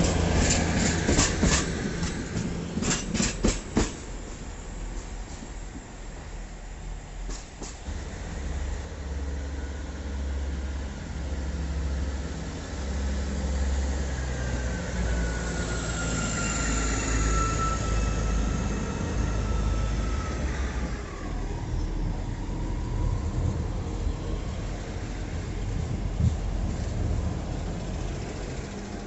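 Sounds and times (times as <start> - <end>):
diesel train engines throbbing: 0.0 - 29.0.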